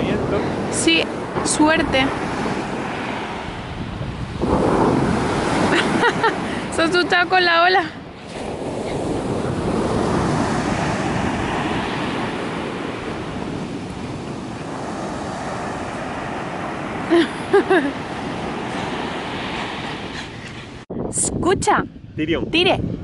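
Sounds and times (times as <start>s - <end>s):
surf breaking on beach: 0.0s - 20.8s.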